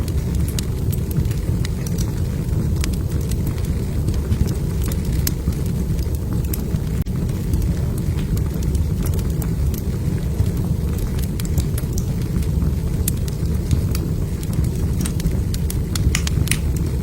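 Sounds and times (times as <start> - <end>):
log fire crackling and popping: 0.0 - 17.0.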